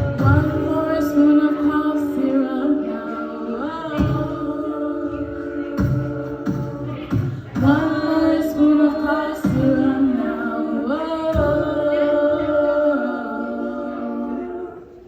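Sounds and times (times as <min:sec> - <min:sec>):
a cappella voices singing in harmony: 0:00.0 - 0:15.0.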